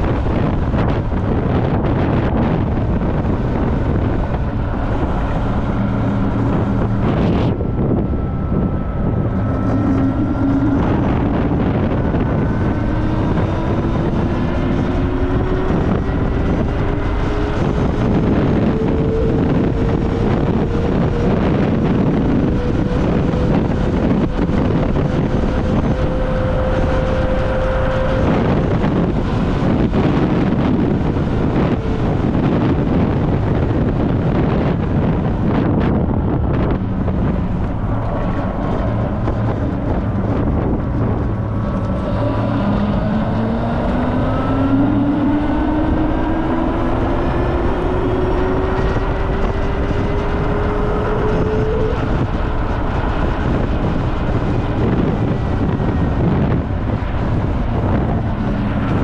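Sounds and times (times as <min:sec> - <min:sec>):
wind buffeting microphone: 0:00.0 - 0:59.0
electric motor whine: 0:00.1 - 0:52.8.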